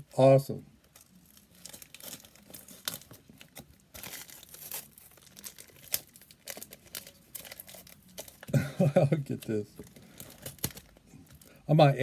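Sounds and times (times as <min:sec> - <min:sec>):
packaging crinkling and tearing: 0:00.8 - 0:11.6.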